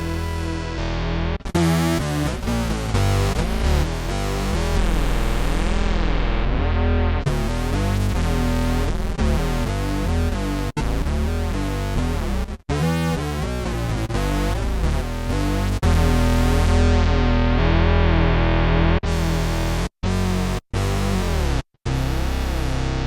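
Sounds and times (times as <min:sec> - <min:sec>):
sustained synth-bass notes: 0:00.0 - 0:23.0.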